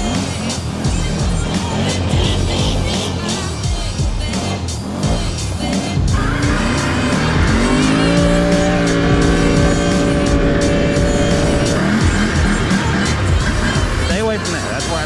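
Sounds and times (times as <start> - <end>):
music: 0.0 - 15.0
quad bike engine revving: 0.0 - 15.0.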